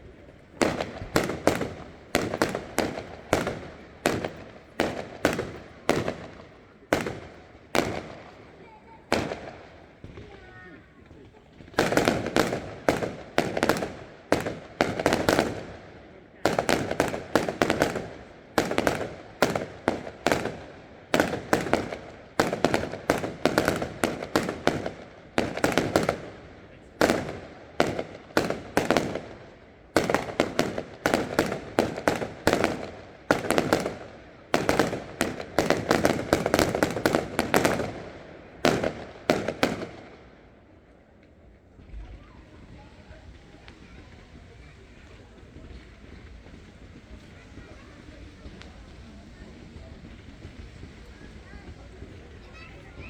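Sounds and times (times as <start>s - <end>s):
fireworks bursting with crackle: 0.0s - 53.0s.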